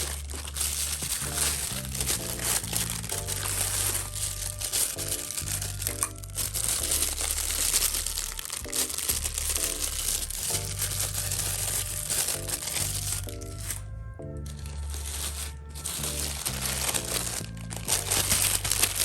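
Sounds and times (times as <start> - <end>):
background music with bass line: 0.0 - 19.0
packaging crinkling and rustling: 0.0 - 19.0.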